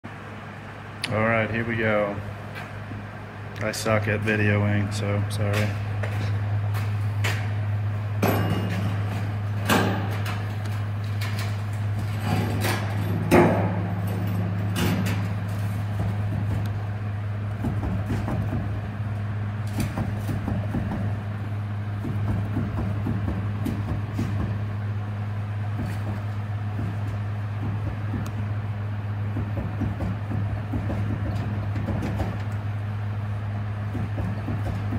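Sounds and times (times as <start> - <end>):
wheel bearing hum: 0.0 - 34.9.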